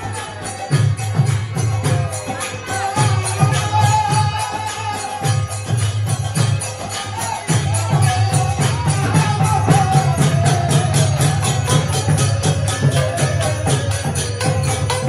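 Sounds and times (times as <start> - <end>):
hand cymbals clashing: 0.0 - 15.0
hand drum beat: 0.0 - 15.0.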